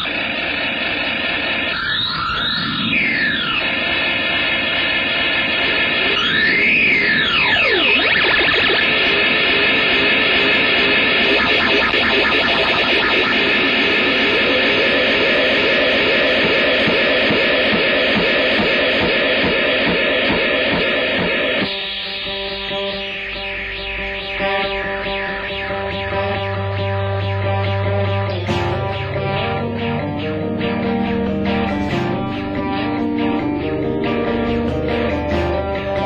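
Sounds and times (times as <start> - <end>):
distorted electric guitar rock music: 0.0 - 36.0.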